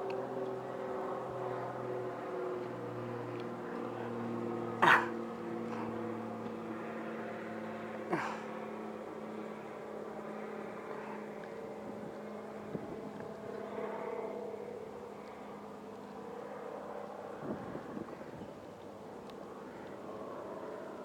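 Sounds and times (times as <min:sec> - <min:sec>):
distant motor hum: 0:00.0 - 0:21.0.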